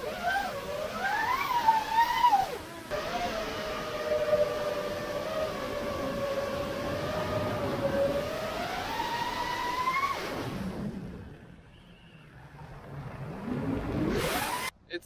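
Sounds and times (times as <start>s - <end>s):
drone motors whining: 0.0s - 14.7s.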